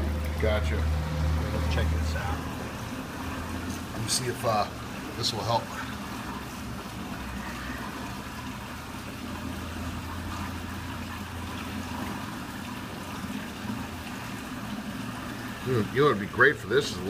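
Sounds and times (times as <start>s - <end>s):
water running out of drain: 0.0s - 17.0s.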